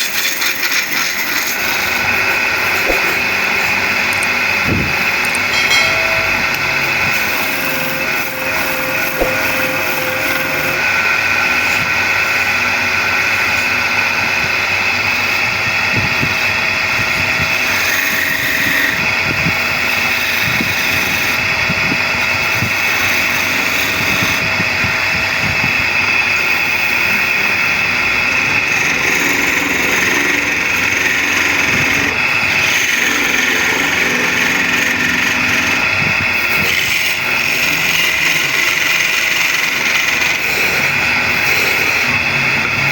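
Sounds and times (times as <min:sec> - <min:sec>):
wood lathe cutting wood: 0:00.0 - 0:42.9.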